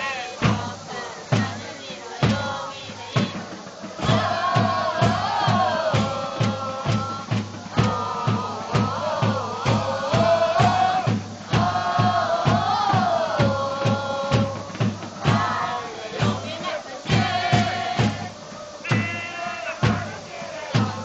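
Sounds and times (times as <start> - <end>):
crowd singing a chant in unison: 0.0 - 21.0
steady bass drum beat: 0.0 - 21.0.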